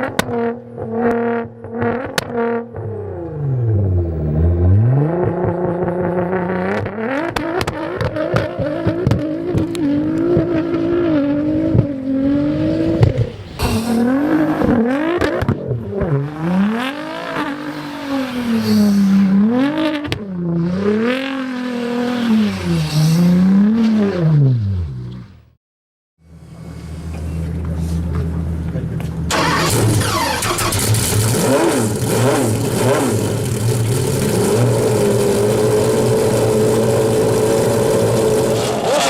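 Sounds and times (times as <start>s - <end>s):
car engine revving hard: 0.0s - 25.1s, 29.3s - 39.0s.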